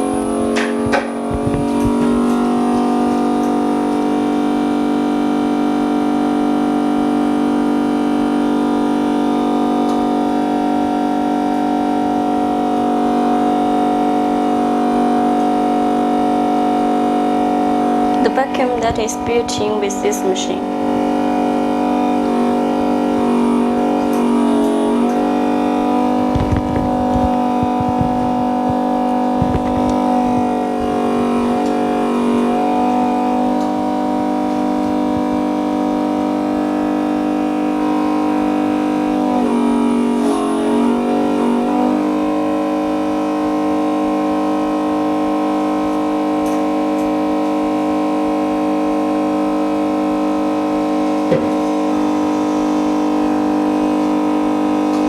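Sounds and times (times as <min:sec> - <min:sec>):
music of sustained chords: 0:00.0 - 0:55.0.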